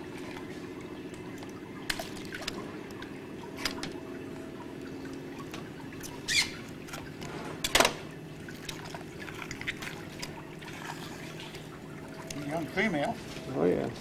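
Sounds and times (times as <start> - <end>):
steady low hum: 0.0 - 14.0
water trickling and splashing: 0.0 - 14.0.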